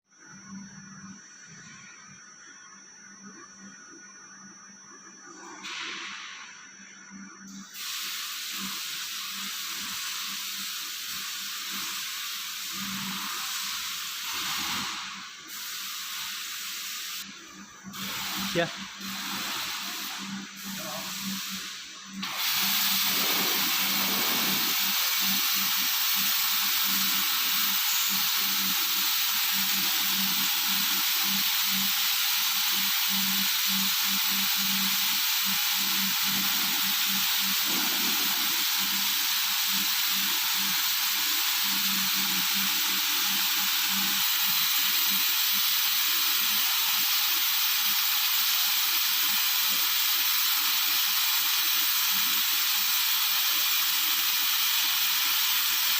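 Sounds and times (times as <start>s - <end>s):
welding machine hissing: 5.2s - 6.7s, 7.5s - 55.9s.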